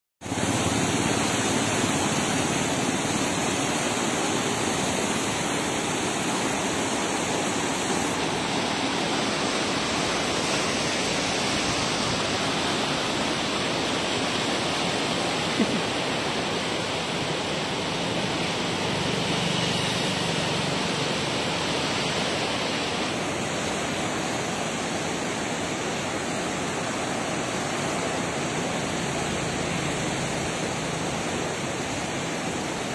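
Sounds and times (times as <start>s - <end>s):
floodwater rushing and churning: 0.2s - 32.9s.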